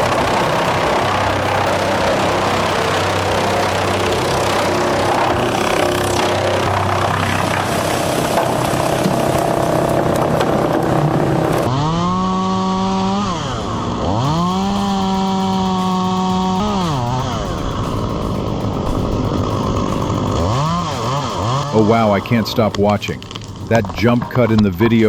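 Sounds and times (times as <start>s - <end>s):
chainsaw engine revving: 0.0s - 24.6s
rough machine noise: 0.0s - 25.0s.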